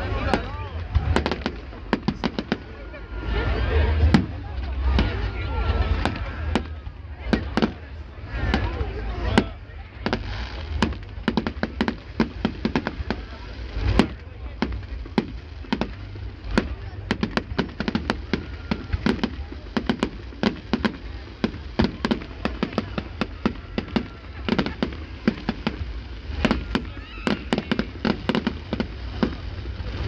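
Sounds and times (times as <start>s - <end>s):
fireworks bangs and cracks: 0.0s - 30.0s.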